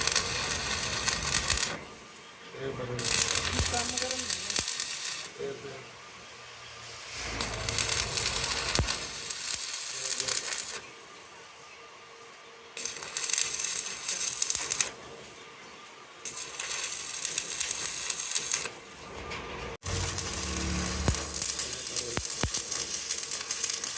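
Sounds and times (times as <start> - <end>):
arc welding crackling sizzle: 0.0 - 23.9.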